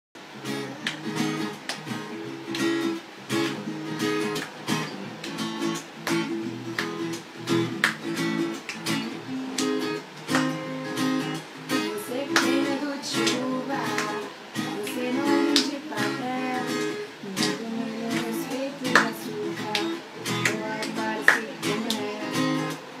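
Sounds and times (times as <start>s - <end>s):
acoustic guitar strumming: 0.2s - 23.0s.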